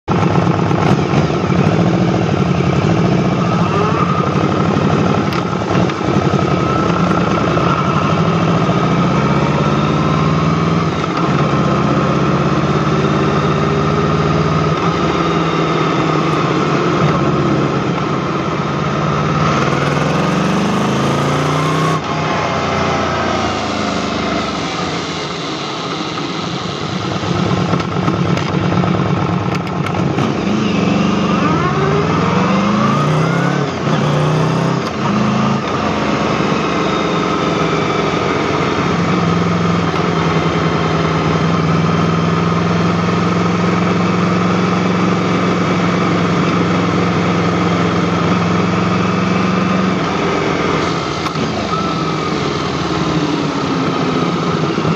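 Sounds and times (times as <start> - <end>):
motorcycle engine revving: 0.0 - 54.9
wind and road noise: 0.0 - 54.9.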